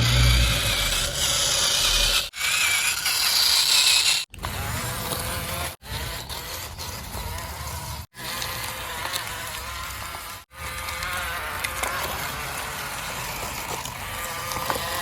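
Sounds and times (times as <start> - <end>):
toy motors whirring and grinding: 0.0 - 15.0.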